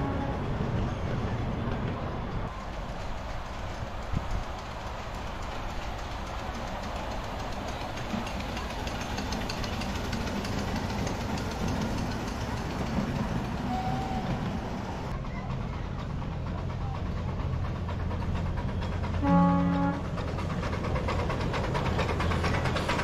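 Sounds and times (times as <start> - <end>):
locomotive hum: 0.0 - 23.0
miniature train approaching: 0.0 - 23.0
wheels clicking over rail joints: 0.7 - 23.0.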